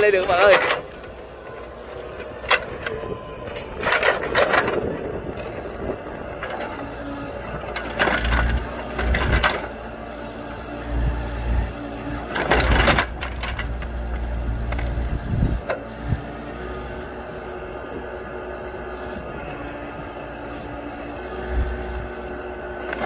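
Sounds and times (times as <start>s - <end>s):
excavator diesel engine: 0.0s - 23.0s.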